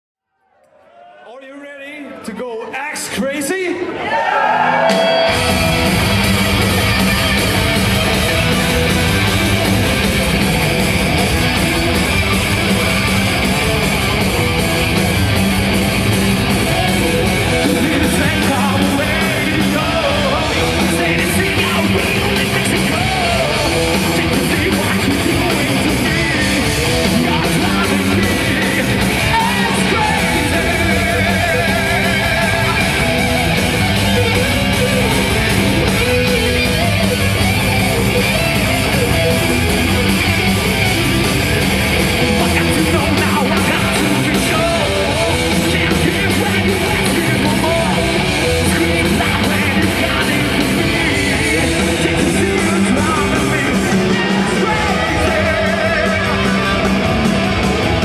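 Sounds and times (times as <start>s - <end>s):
heavy metal band playing live: 4.4s - 58.0s.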